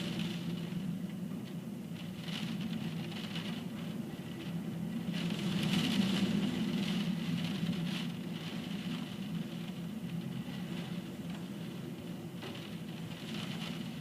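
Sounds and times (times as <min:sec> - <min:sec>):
pouring rain: 0:00.0 - 0:14.0
strong wind: 0:00.0 - 0:14.0.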